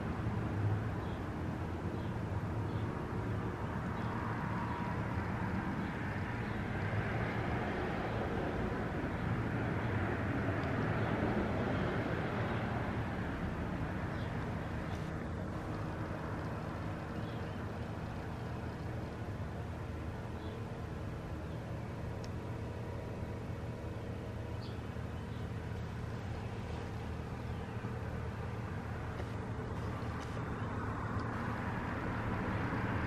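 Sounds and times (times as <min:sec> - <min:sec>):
passing vehicle rumble: 0:00.0 - 0:33.0.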